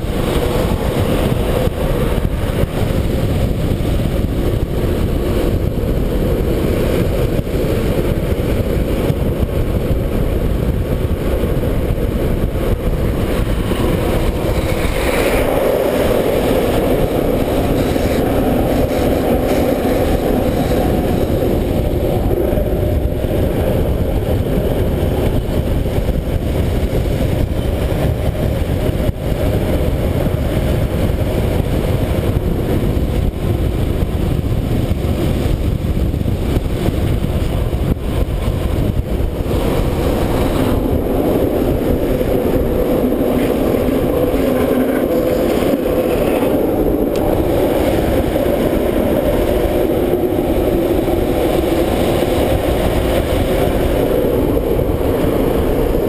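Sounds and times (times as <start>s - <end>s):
wheels rolling on asphalt: 0.0s - 56.0s
wind over microphone: 0.0s - 56.0s.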